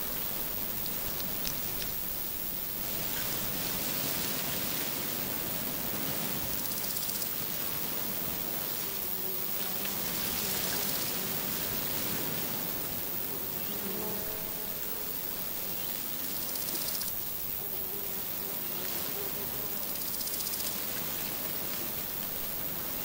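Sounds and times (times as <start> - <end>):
flying insect buzzing: 0.0 - 23.0
steady hiss: 0.0 - 23.0.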